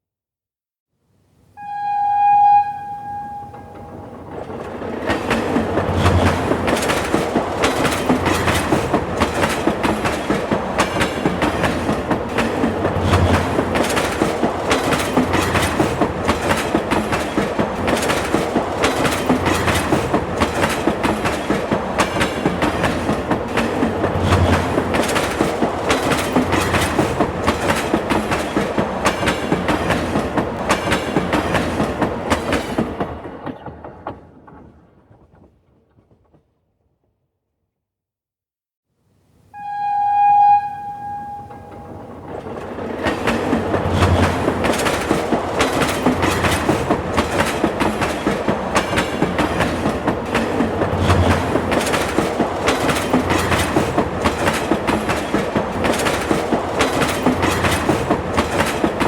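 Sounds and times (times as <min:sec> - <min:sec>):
train wheels clacking on rails: 0:03.2 - 0:35.5, 0:41.2 - 0:59.0.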